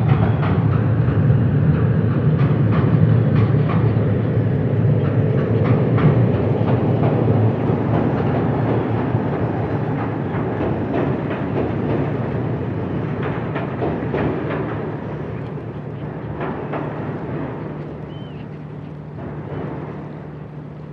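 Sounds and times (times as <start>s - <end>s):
sharp clacks of rails: 0.0s - 20.9s
train rumbling on rails: 0.0s - 20.9s.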